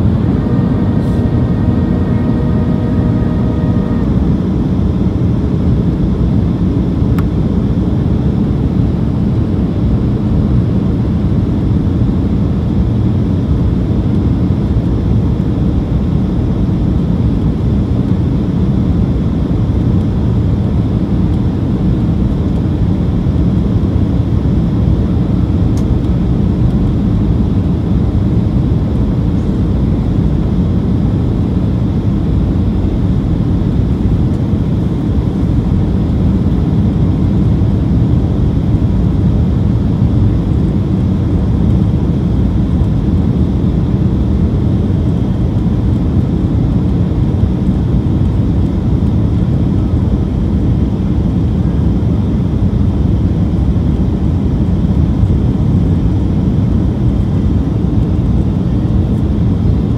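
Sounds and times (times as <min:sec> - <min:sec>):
airplane cabin roar: 0:00.0 - 0:59.9
multi-tone whine: 0:00.0 - 0:59.9.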